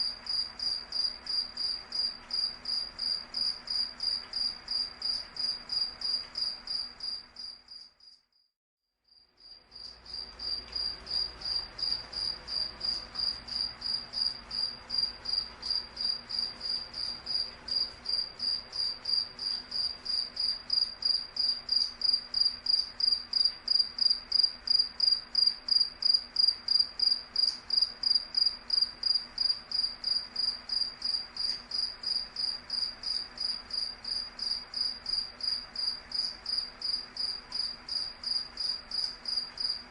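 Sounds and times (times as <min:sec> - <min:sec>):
cricket chirping: 0:00.0 - 0:08.5, 0:09.1 - 0:39.9.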